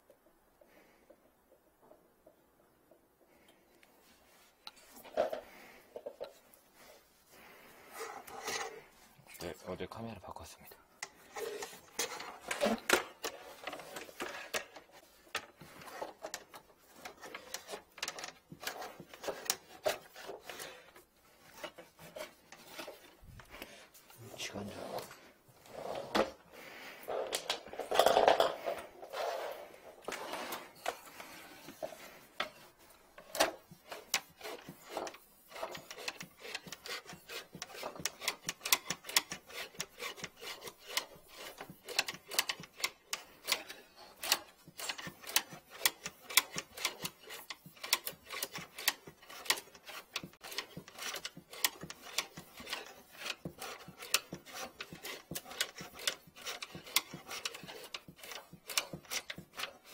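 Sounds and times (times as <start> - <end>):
rustling: 10.8 - 59.9
cable clicking and rubbing in pipe: 10.9 - 26.4, 27.0 - 59.9.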